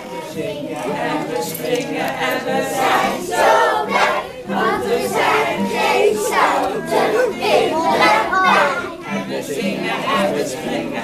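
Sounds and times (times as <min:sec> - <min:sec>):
children and adults singing: 0:00.0 - 0:11.0.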